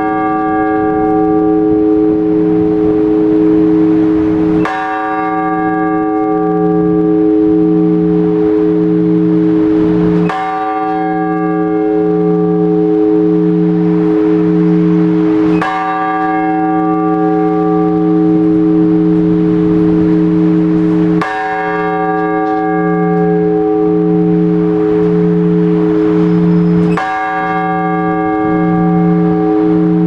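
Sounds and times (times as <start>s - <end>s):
heavy church bell tolling: 0.0s - 30.0s.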